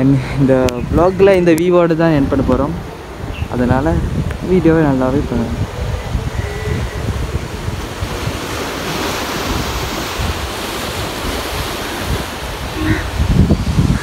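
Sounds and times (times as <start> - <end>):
sea surf washing on rocks: 0.0 - 14.0
wind buffeting microphone: 0.0 - 14.0.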